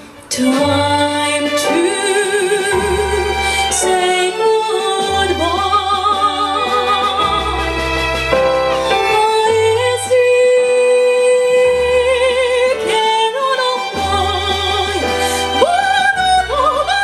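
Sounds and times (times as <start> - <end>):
violin: 0.0 - 17.0
woman singing operatically: 0.3 - 8.1, 9.0 - 17.0.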